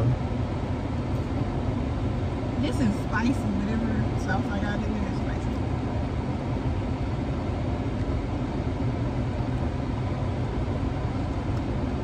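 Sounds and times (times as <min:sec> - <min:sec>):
car cabin engine rumble: 0:00.0 - 0:12.0.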